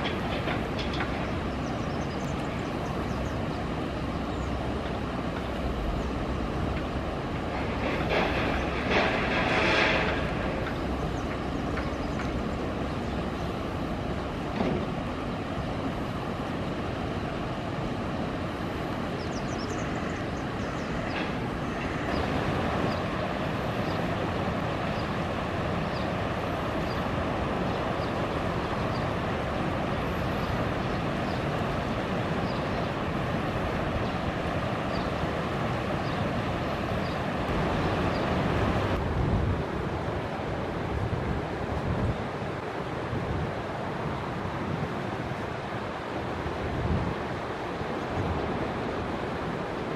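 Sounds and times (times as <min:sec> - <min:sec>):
steady outdoor rushing noise: 0:00.0 - 0:49.9.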